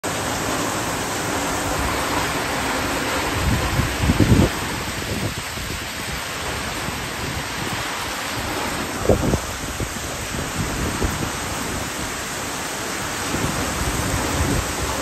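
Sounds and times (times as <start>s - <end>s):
heavy rain hissing: 0.0s - 15.0s
wind gusts on microphone: 0.2s - 15.0s.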